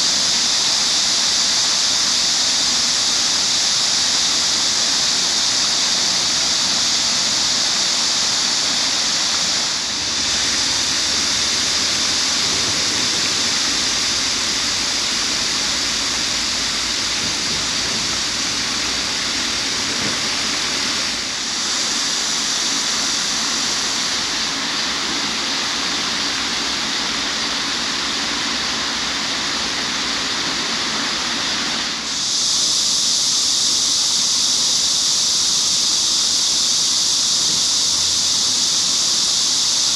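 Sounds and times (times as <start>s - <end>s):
cicadas chorus: 0.0s - 39.9s.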